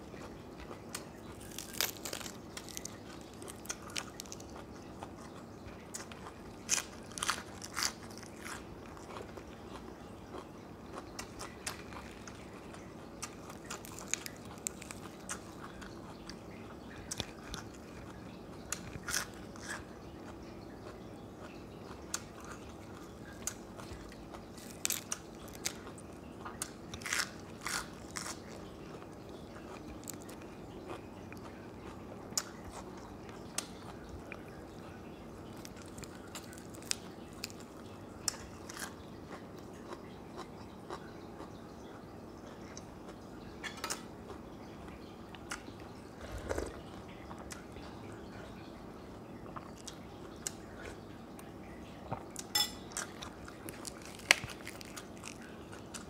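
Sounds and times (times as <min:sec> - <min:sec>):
crunching lettuce and chewing: 0:00.0 - 0:41.6, 0:45.3 - 0:47.7, 0:52.0 - 0:56.0.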